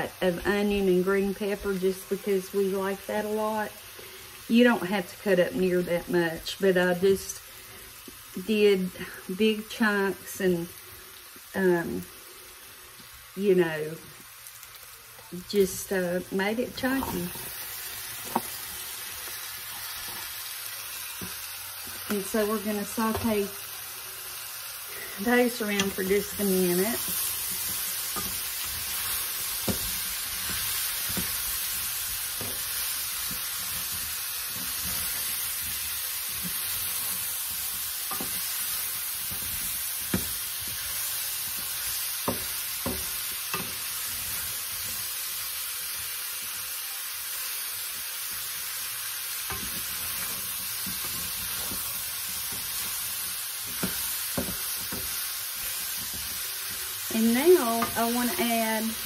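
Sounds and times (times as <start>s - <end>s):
meat and vegetables sizzling in a pan: 0.0s - 59.0s.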